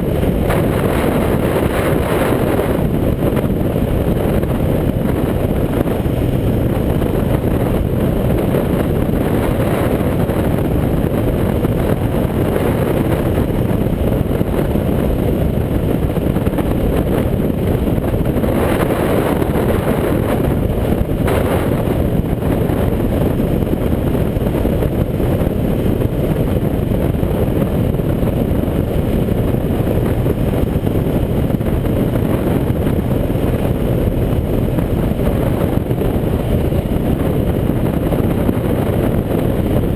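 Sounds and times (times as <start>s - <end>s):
motorcycle running: 0.0s - 39.9s
wind rushing on microphone: 0.0s - 39.9s.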